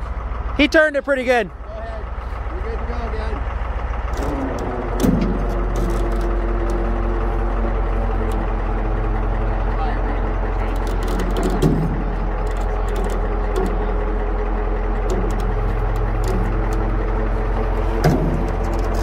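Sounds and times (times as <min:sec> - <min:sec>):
tow truck engine running: 0:00.0 - 0:19.0.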